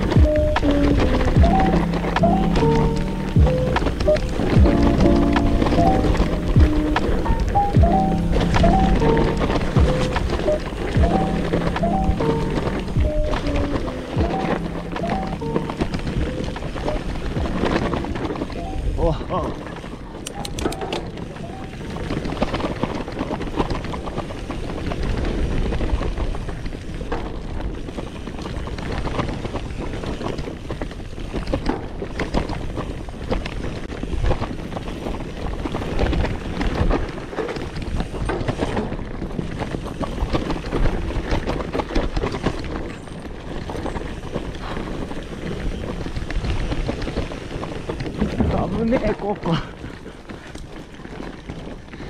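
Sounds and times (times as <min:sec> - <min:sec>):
bike rattling and knocking: 0:00.0 - 0:52.0
bike tyre noise: 0:00.0 - 0:52.0
wind buffeting microphone: 0:00.0 - 0:52.0.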